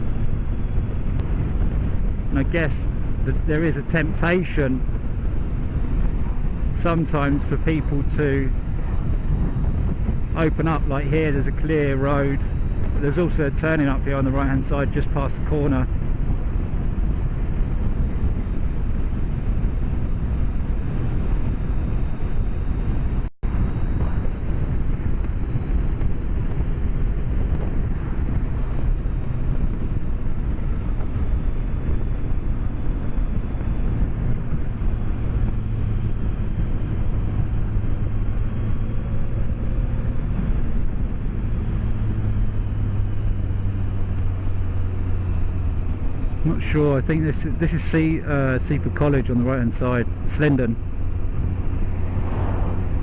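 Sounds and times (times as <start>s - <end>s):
motorcycle engine running: 0.0s - 53.0s
wind rush: 0.0s - 53.0s.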